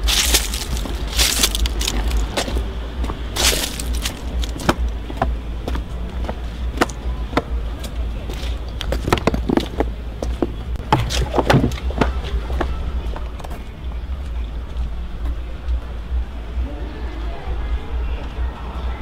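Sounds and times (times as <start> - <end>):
footsteps on paved path: 0.0 - 16.0
steady low rumble: 0.0 - 19.0.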